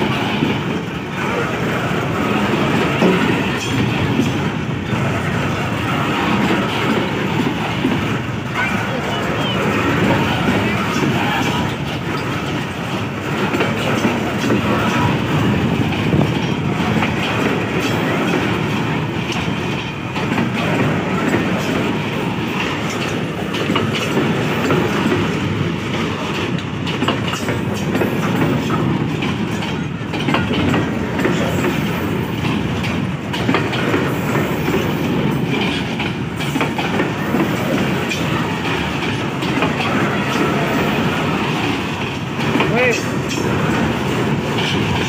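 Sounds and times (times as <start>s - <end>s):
train rumble: 0.0s - 45.0s
train wheels clacking over rail joints: 0.0s - 45.0s.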